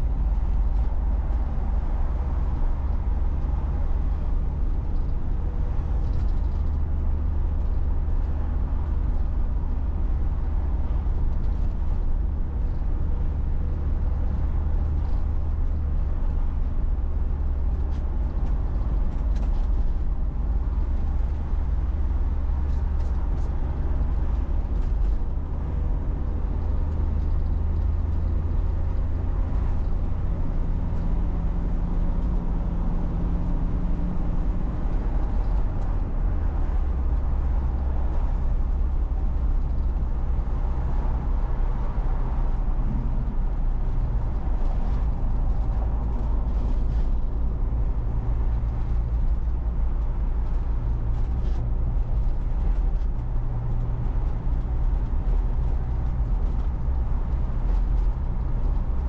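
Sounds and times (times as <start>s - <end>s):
vehicle engine and tyres droning: 0.0s - 59.0s.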